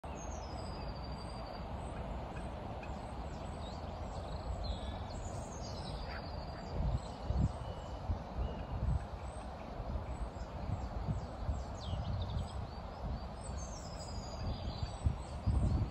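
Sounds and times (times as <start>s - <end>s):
steady outdoor noise: 0.0s - 15.9s.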